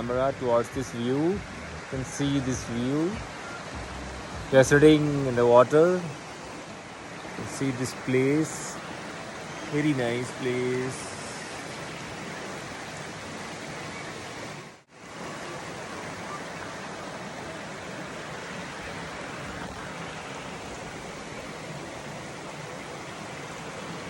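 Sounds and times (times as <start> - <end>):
waterfall water rushing: 0.0 - 24.0.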